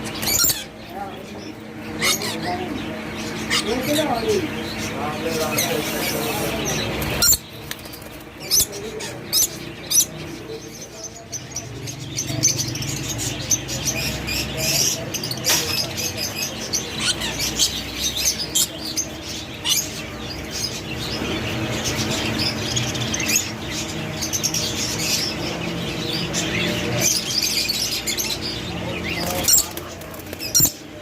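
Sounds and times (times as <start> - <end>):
birds chirping and squawking: 0.0 - 31.0.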